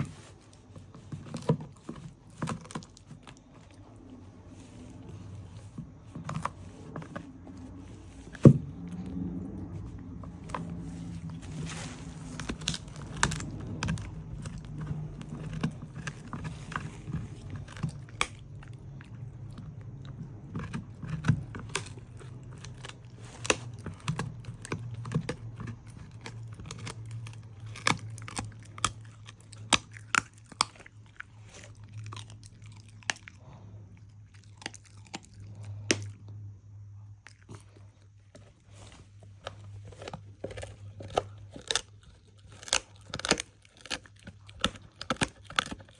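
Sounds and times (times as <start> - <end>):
dog crunching food: 0.0 - 36.4, 37.2 - 45.9
steady low hum: 0.0 - 45.9.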